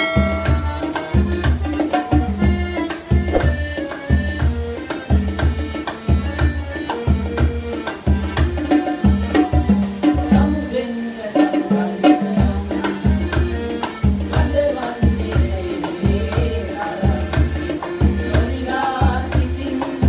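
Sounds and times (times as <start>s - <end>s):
bongos and hand drum: 0.0s - 20.0s
accordion melody: 0.6s - 10.2s, 12.8s - 14.9s, 15.6s - 20.0s.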